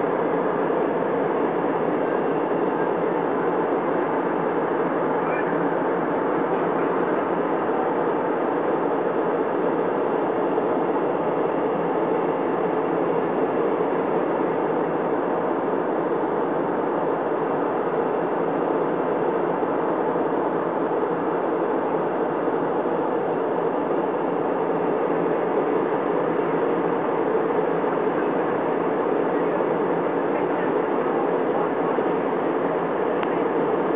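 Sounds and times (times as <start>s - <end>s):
airliner cabin noise: 0.0s - 33.9s.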